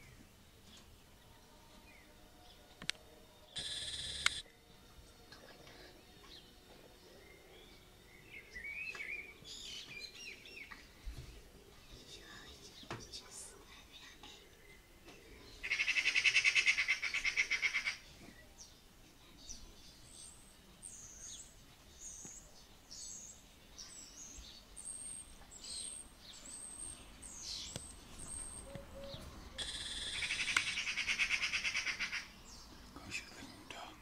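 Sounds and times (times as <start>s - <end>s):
small birds chirping: 5.2s - 34.0s.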